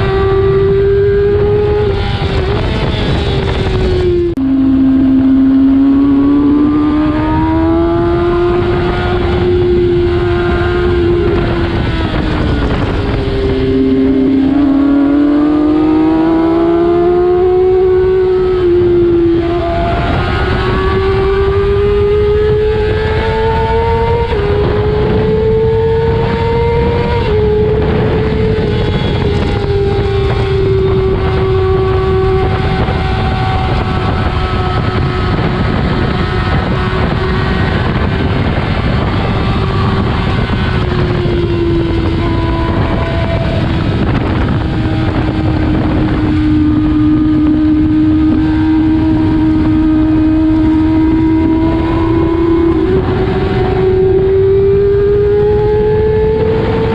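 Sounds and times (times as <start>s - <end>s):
motorcycle engine revving high: 0.0s - 56.9s
wind buffeting microphone: 0.0s - 56.9s.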